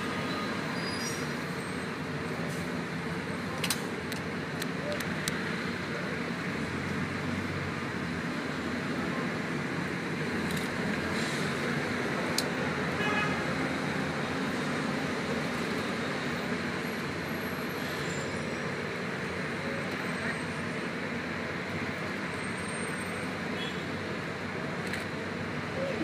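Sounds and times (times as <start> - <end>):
slow city traffic: 0.0 - 26.0.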